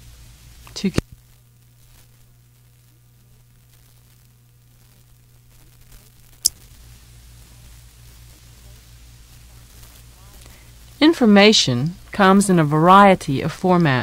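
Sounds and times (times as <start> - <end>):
low mains hum: 0.0 - 14.0
tape hiss: 0.0 - 14.0.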